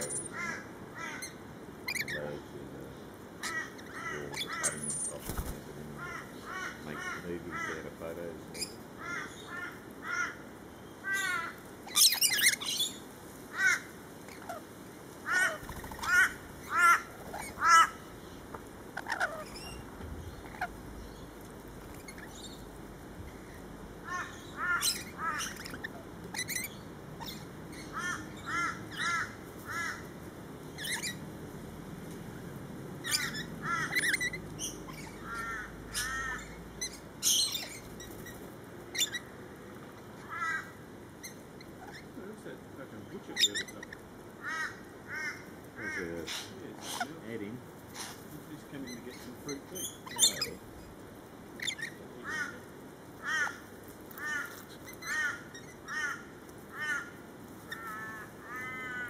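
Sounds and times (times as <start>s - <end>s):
lorikeets screechy chattering: 0.0s - 10.4s, 11.0s - 13.0s, 15.3s - 22.7s, 23.3s - 31.3s, 33.0s - 39.4s, 40.0s - 51.0s, 51.6s - 53.6s.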